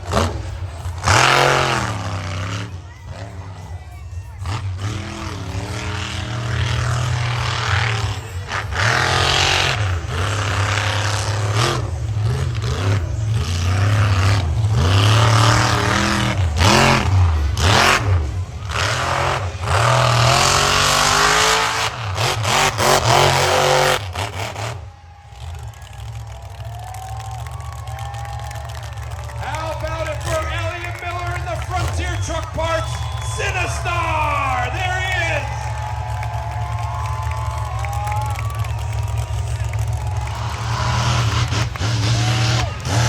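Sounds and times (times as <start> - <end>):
monster truck engine revving: 0.0 - 43.0.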